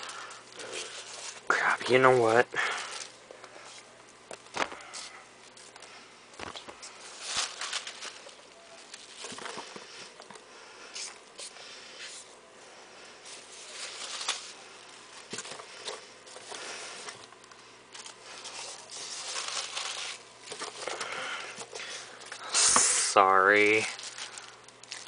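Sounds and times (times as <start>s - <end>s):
packing peanuts rustling: 0.0s - 10.4s, 13.2s - 25.0s.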